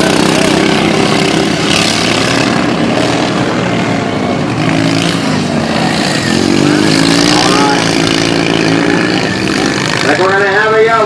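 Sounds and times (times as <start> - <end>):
racing lawnmower engines: 0.0 - 11.0.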